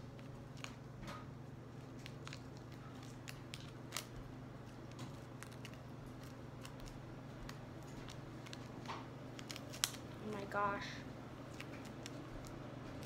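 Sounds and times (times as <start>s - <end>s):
paper and tape crinkling: 0.0s - 10.6s, 11.4s - 13.0s
steady low hum: 0.0s - 13.0s.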